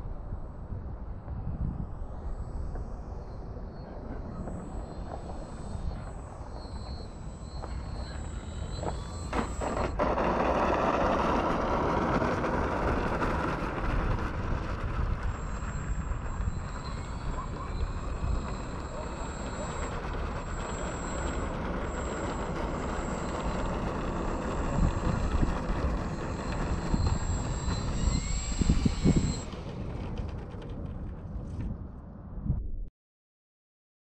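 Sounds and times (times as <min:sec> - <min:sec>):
wind on microphone: 0:00.0 - 0:06.3, 0:08.0 - 0:32.9
steady rushing noise: 0:00.0 - 0:32.6
model plane motor whine: 0:01.8 - 0:30.9.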